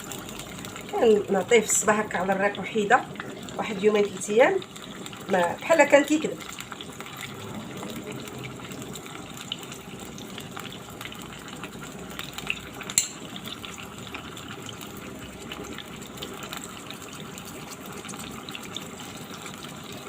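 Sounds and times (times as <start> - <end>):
pot sizzling: 0.0 - 20.0.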